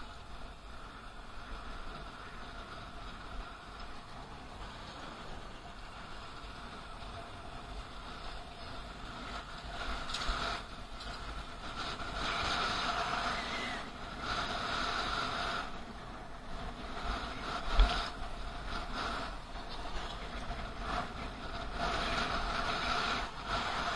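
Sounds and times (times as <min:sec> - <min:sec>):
traffic: 0:00.0 - 0:23.9
tyres humming on road: 0:00.0 - 0:23.9.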